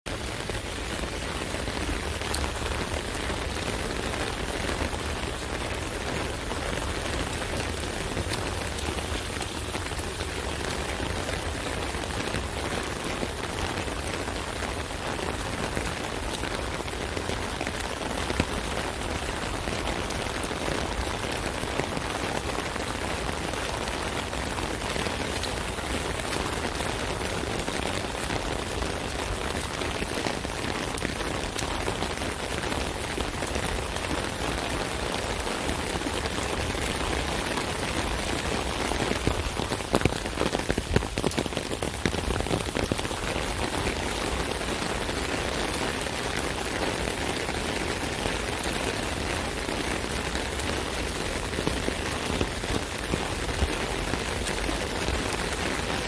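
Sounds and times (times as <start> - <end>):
rain pattering on an umbrella: 0.1 - 56.0.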